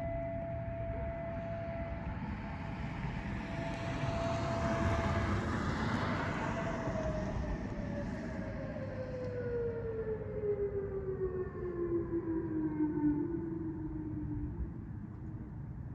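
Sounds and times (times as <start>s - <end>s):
warning siren winding down: 0.0s - 14.8s.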